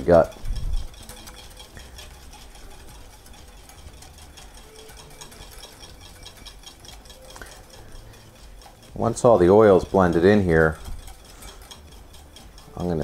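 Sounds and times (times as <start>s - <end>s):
whisk clicking in glass bowl: 0.0s - 13.0s.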